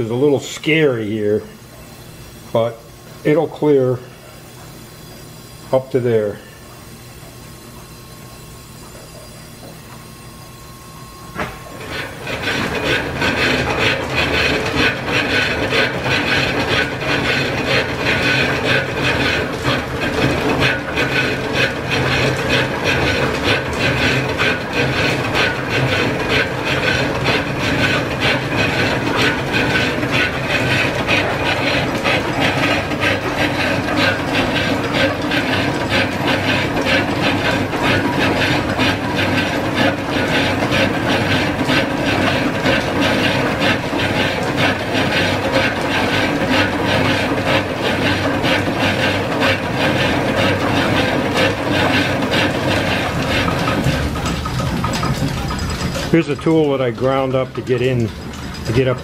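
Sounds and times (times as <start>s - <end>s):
lathe running with fast clatter: 0.0s - 59.0s
lathe starting knock: 11.3s - 59.0s.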